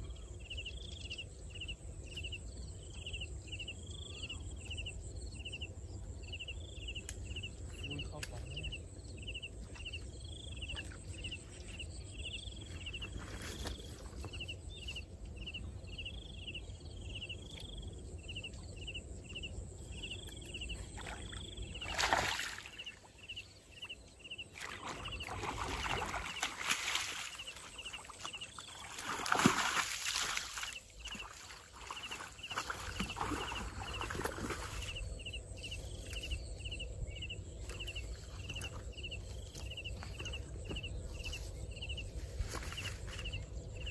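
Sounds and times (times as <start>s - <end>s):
insect chirping: 0.1s - 43.9s.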